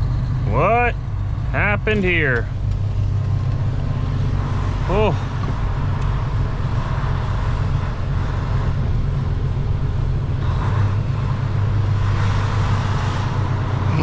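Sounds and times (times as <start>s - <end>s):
diesel truck engine drone: 0.0s - 14.0s
road and tyre noise: 0.0s - 14.0s.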